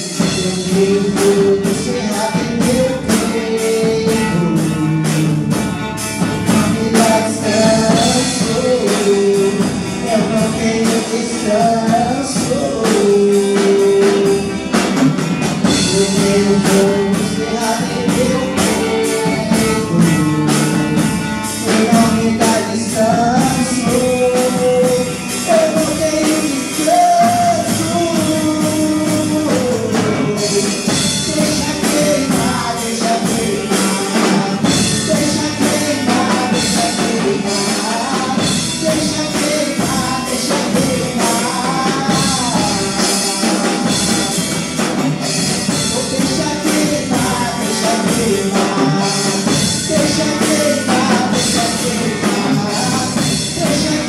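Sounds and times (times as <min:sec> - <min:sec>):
band with drums and guitar: 0:00.0 - 0:54.0
gospel singing: 0:00.0 - 0:54.0.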